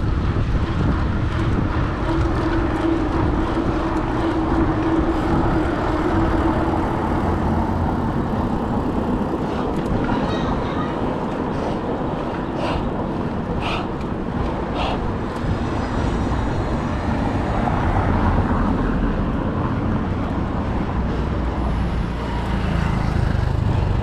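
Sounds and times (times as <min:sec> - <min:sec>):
wind on microphone: 0:00.0 - 0:21.8
road traffic rumble: 0:00.0 - 0:24.0.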